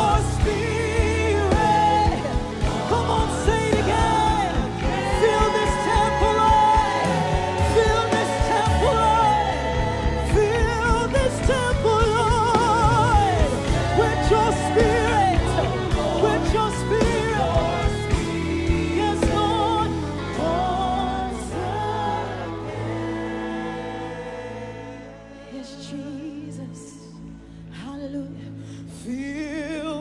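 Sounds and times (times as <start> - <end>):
choir singing with vibrato: 0.0 - 27.8
keyboard: 0.0 - 30.0.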